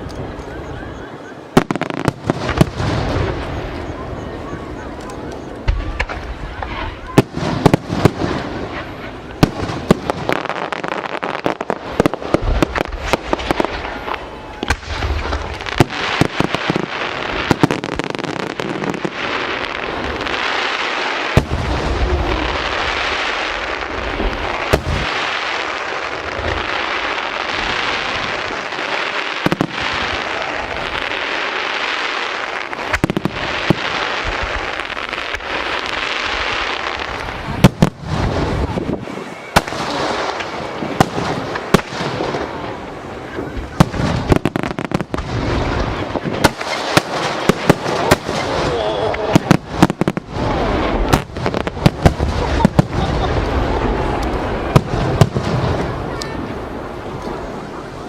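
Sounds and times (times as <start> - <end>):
fireworks crackling: 0.0 - 58.0
loud firework booms: 1.5 - 4.8, 5.6 - 56.9.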